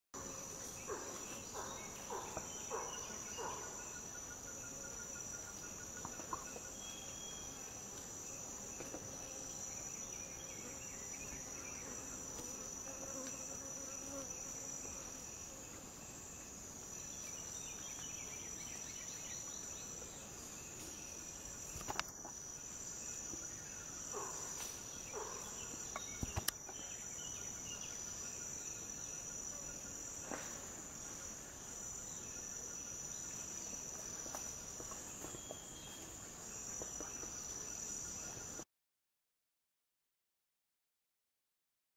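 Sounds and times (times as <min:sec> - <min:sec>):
insects buzzing: 0:00.2 - 0:38.6.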